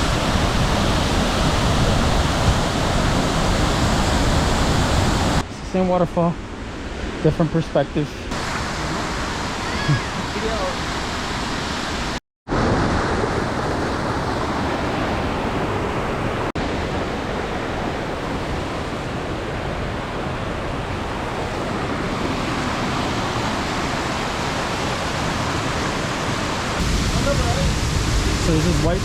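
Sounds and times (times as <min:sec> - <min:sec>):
large waterfall rushing: 0:00.0 - 0:06.0, 0:08.3 - 0:29.0.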